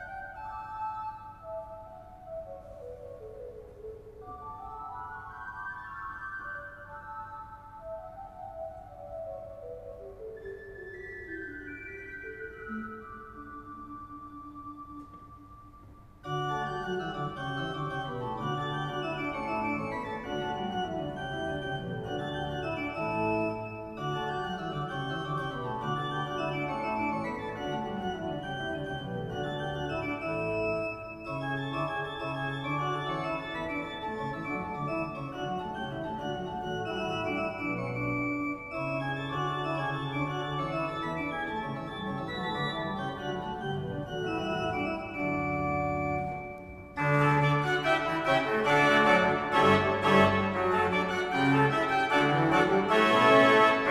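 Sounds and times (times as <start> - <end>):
pipe organ playing chords: 0.0 - 53.9.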